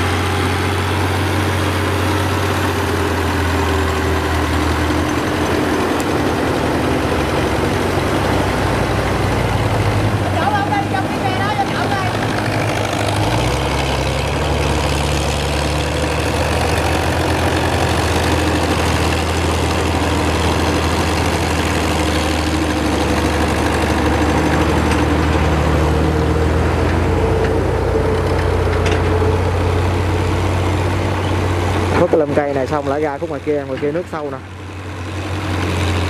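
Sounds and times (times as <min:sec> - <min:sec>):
tractor diesel engine running: 0:00.0 - 0:36.0
water churning around wheels: 0:00.0 - 0:36.0.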